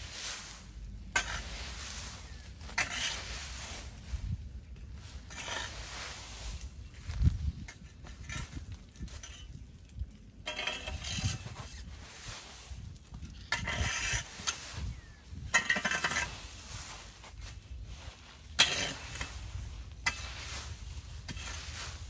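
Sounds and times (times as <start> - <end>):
leaves rustling: 0.0 - 9.4, 11.1 - 13.2, 14.1 - 15.4, 16.2 - 22.0
rake scraping leaves on concrete: 0.0 - 22.0.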